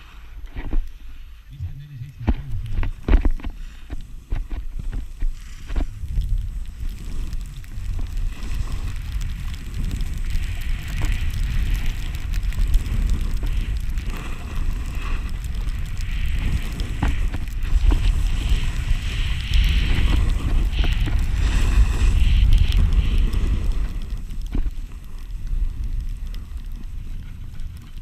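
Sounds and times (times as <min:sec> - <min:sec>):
wind rushing over microphone: 0:00.0 - 0:28.0
ski edges scraping on snow: 0:02.3 - 0:27.8.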